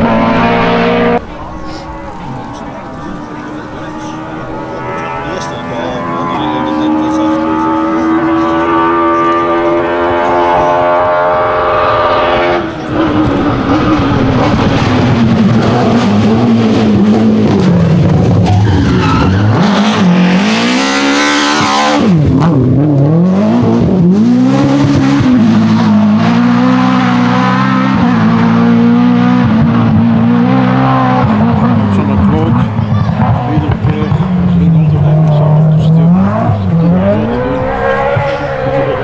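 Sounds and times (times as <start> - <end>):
rally car engine revving: 0.0 - 39.0.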